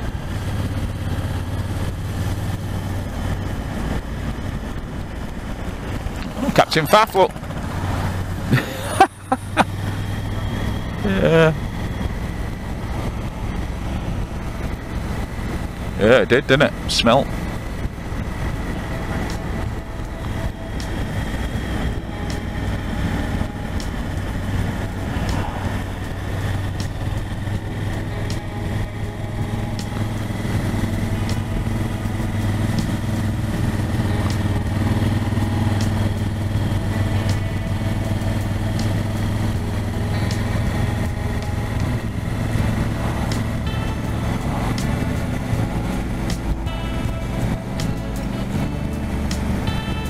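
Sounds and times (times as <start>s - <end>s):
motorcycle engine running: 0.0s - 50.0s
wind rush: 0.0s - 50.0s.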